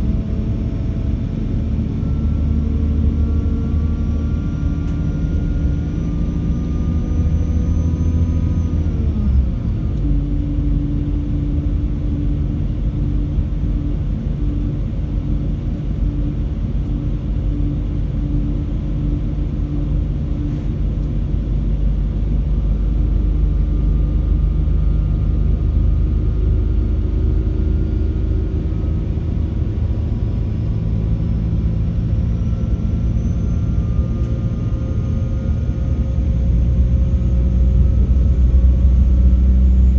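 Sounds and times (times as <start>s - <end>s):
diesel engine under power: 0.0s - 39.9s.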